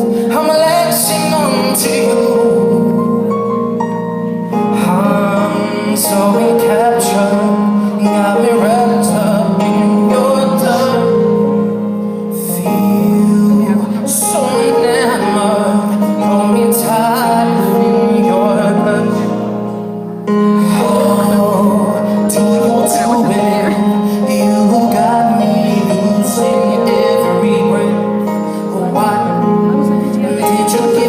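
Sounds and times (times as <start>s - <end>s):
person singing wordless vocals: 0.0s - 3.3s, 4.7s - 19.6s, 20.4s - 31.0s
sustained instrumental chords: 0.0s - 31.0s.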